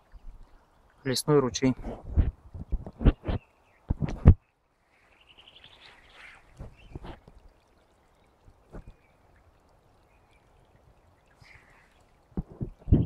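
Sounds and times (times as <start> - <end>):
stream trickling: 0.0 - 13.0
water gurgling: 0.0 - 13.0.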